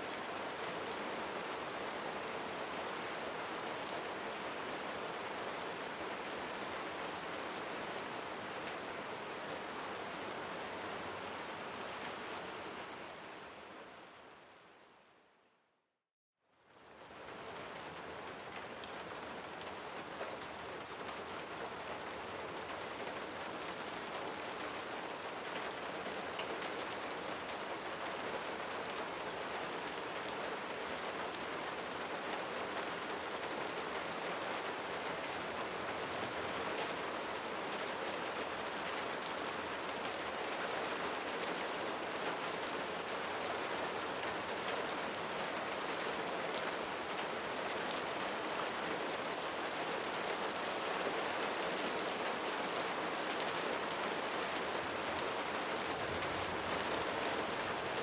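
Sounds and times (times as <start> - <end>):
steady rain falling: 0.0 - 15.2, 16.5 - 58.0.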